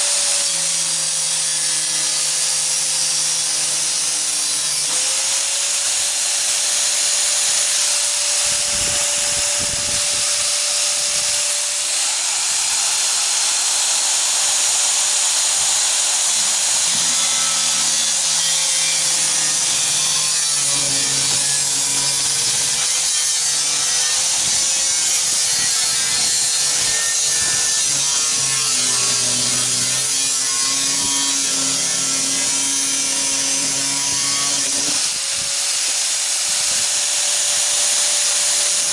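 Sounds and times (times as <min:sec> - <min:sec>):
power tool cutting sheet steel: 0:00.0 - 0:38.9.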